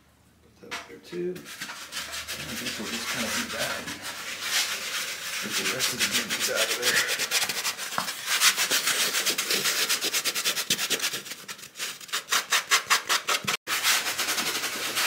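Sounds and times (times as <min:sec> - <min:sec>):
rapid scrubbing of foam: 0:01.5 - 0:15.0.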